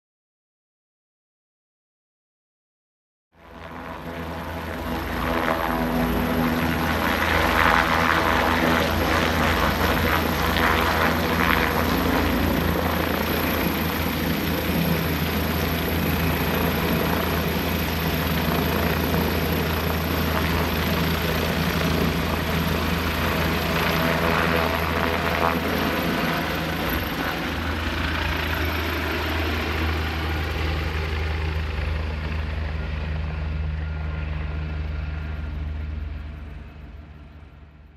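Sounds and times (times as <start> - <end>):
helicopter rotor noise: 3.4 - 37.9
high turbine whine: 3.5 - 37.9.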